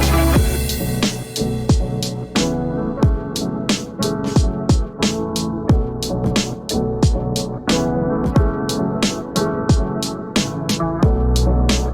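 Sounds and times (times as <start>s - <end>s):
electronic hip-hop beat: 0.0s - 11.9s.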